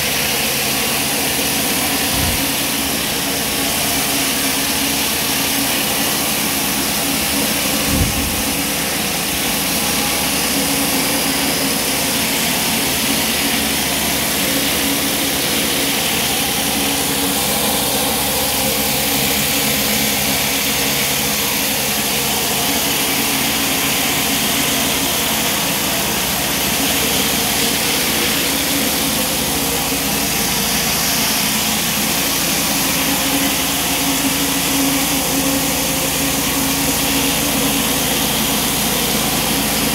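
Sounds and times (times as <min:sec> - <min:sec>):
mechanical hum: 0:00.0 - 0:39.9
pressure washer water jets hissing: 0:00.0 - 0:39.9.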